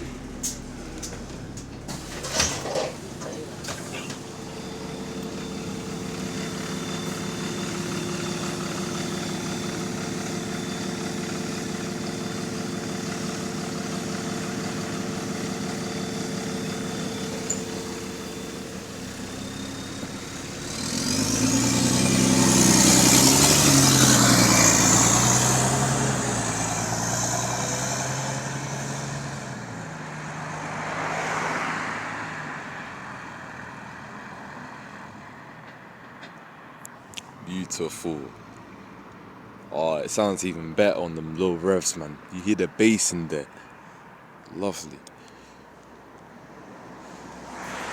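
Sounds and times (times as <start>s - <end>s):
diesel bus engine: 0.0s - 47.9s.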